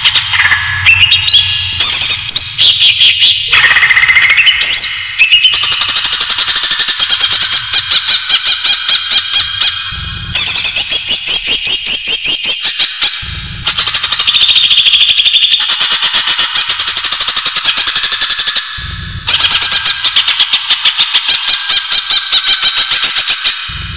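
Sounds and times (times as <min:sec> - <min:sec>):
bird calling high repeated notes: 0:00.0 - 0:23.7.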